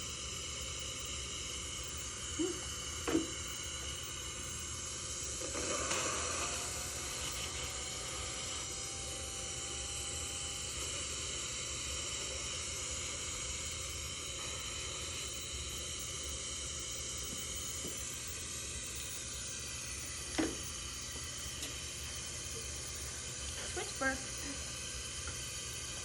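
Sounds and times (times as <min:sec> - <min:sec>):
dental equipment hissing: 0:00.0 - 0:26.0.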